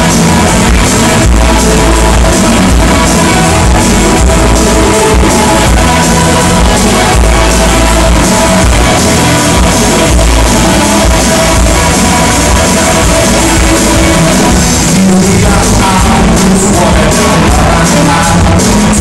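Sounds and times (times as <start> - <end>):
live rock band playing loudly: 0.0 - 19.0.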